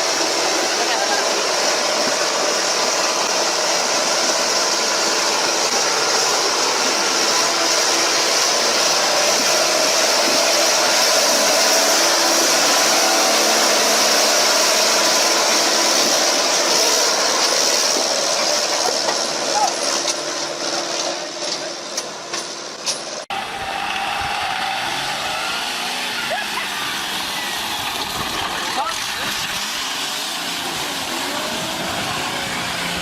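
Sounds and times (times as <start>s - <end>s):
vehicle rushing noise: 0.0s - 21.8s, 22.5s - 33.0s.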